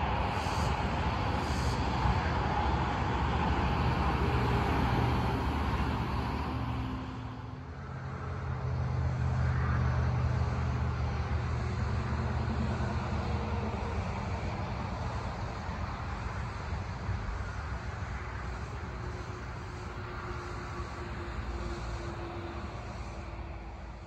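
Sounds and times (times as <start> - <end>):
outdoor noise hiss: 0.0 - 7.5, 8.2 - 24.0.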